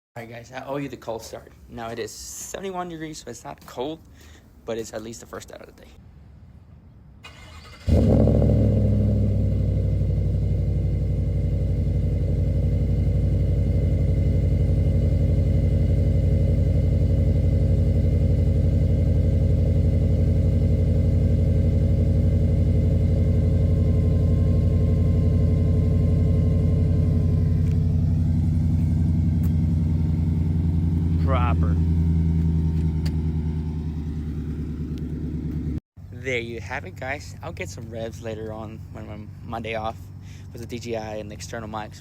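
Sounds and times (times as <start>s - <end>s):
car engine starting and idling: 7.2s - 42.0s.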